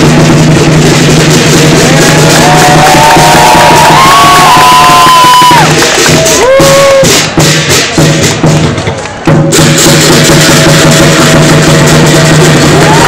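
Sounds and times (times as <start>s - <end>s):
drum: 0.0s - 13.0s.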